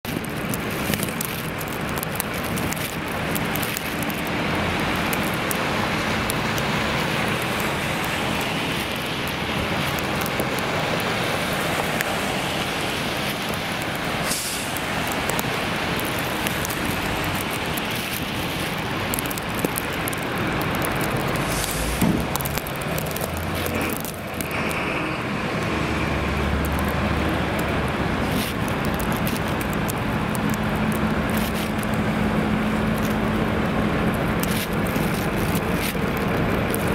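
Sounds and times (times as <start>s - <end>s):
passing vehicle engines: 0.1s - 36.9s
tyres hissing on wet pavement: 0.1s - 36.9s.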